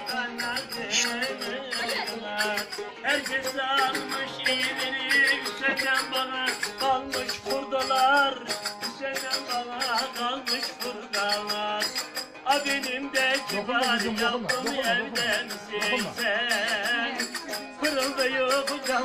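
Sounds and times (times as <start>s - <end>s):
lute strummed quickly: 0.0s - 19.0s
man singing: 0.0s - 19.0s.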